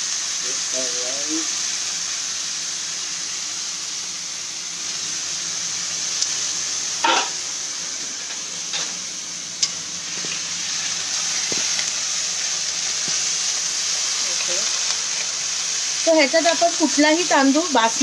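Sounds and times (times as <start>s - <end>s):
rice sizzling in a wok: 0.0s - 18.0s.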